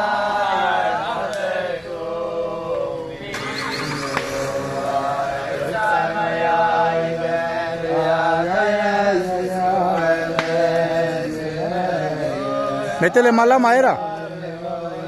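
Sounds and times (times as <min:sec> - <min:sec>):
men singing together: 0:00.0 - 0:15.0.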